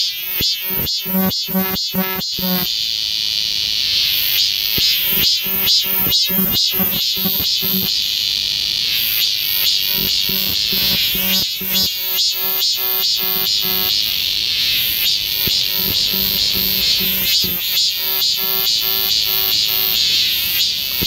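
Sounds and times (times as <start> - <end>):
cicadas droning: 0.0 - 21.0
pulsing insect call: 0.0 - 21.0.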